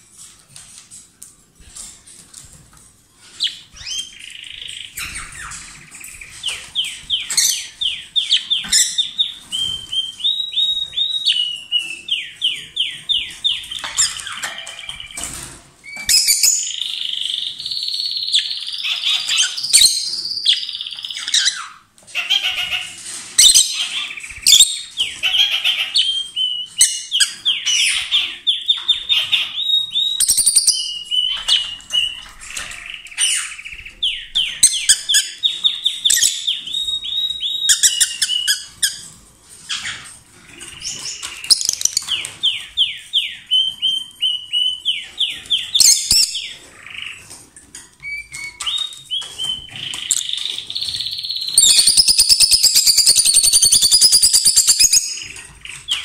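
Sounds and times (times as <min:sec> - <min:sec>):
lovebirds chirping loudly: 0:03.4 - 0:15.3, 0:16.0 - 0:39.1, 0:39.7 - 0:47.4, 0:48.0 - 0:56.0.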